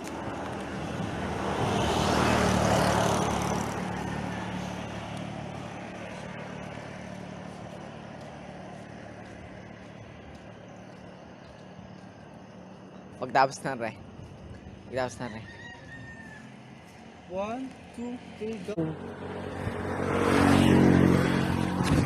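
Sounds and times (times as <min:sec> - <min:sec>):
low engine hum: 0:00.0 - 0:15.5, 0:16.3 - 0:22.0
motor vehicle passing: 0:00.0 - 0:22.0.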